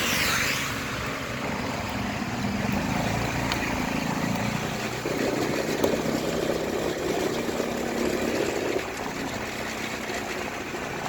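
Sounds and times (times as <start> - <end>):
road noise: 0.0 - 11.0
motorcycle engine running: 1.0 - 11.0.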